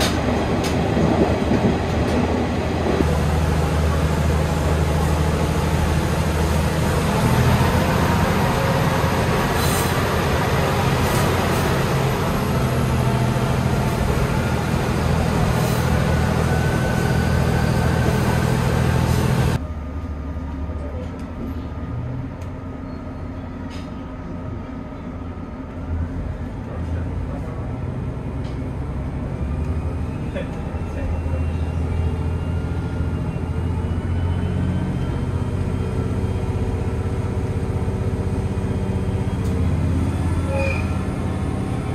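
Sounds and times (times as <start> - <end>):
train engine hum: 0.0 - 41.9
train wheels rumbling on rail: 0.0 - 41.9.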